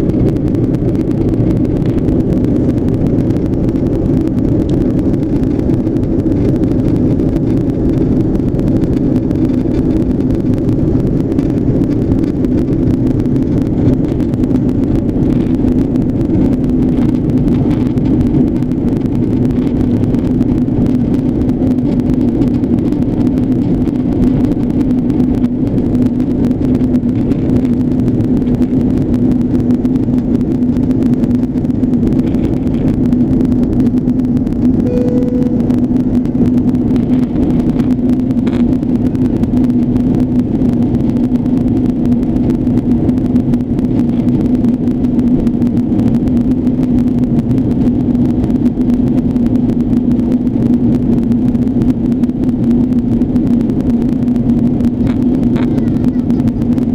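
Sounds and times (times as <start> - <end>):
airplane engines droning: 0.0 - 56.9.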